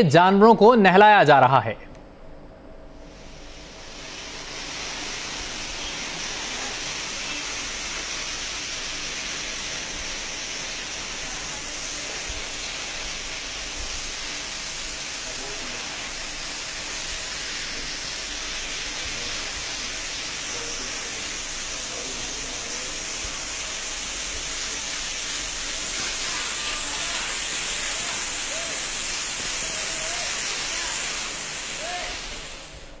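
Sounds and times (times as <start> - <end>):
pressure water jet spraying: 3.2 - 33.0.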